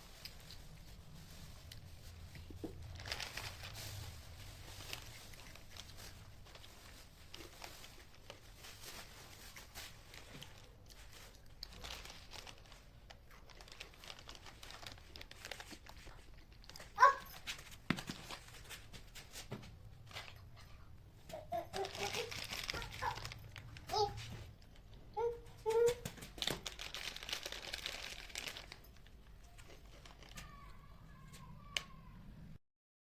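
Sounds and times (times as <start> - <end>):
craft materials crinkling: 0.0 - 31.9.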